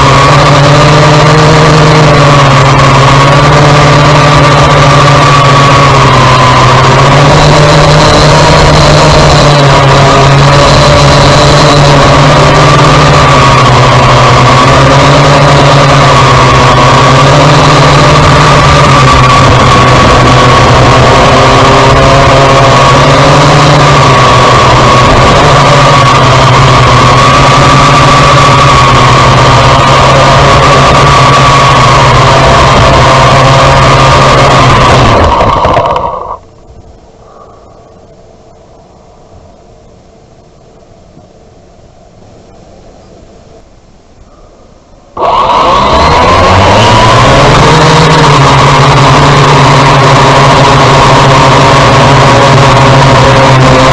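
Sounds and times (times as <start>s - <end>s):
drone motors and propellers: 0.0s - 53.9s.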